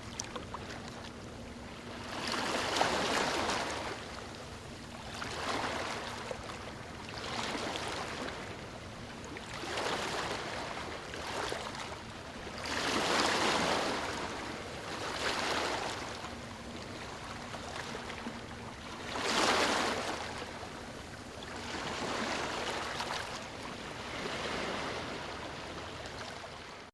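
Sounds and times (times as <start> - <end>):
ocean waves washing ashore: 0.0 - 26.9.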